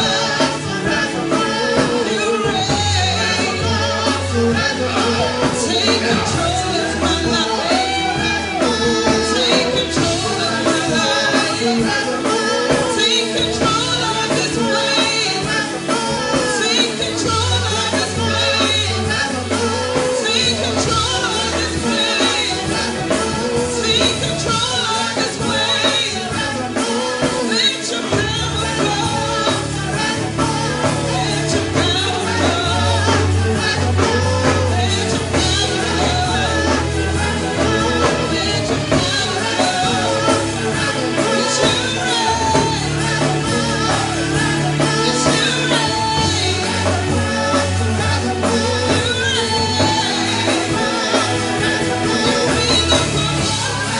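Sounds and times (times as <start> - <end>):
band with bass and drums: 0.0 - 53.9
person singing: 0.0 - 53.9.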